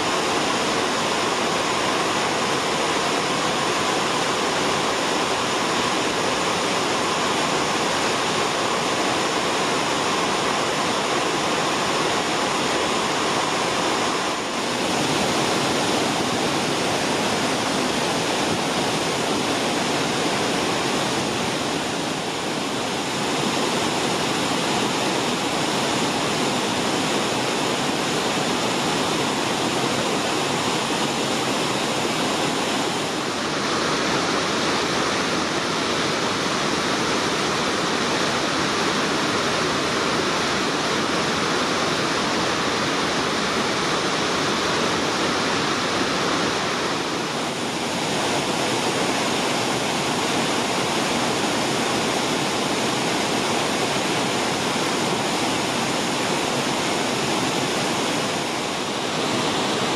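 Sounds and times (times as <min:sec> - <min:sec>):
water rushing over falls: 0:00.0 - 0:59.9.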